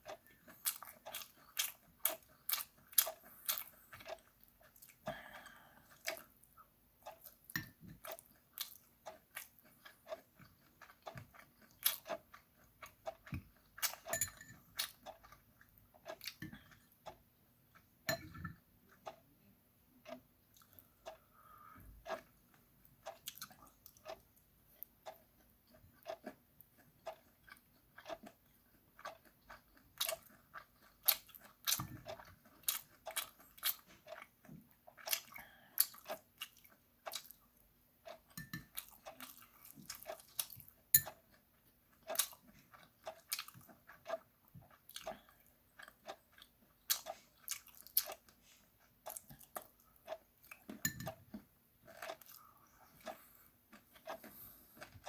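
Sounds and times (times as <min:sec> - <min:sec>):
wet chewing smacks and crunches: 0:00.0 - 0:05.2, 0:07.0 - 0:14.1, 0:14.7 - 0:17.2, 0:22.0 - 0:55.0.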